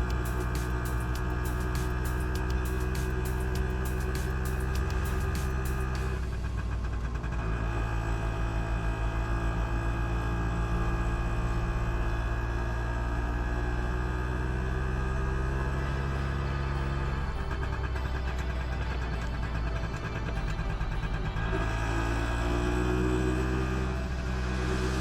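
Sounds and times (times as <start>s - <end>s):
small engine droning: 0.0s - 25.0s.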